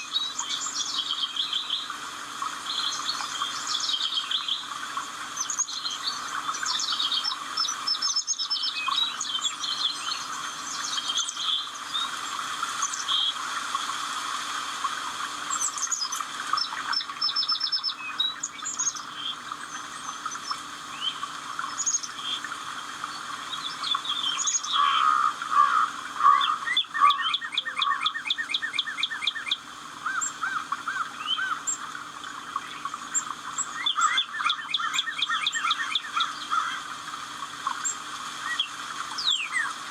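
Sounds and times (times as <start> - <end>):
songbirds singing: 0.0 - 13.9, 14.8 - 39.9.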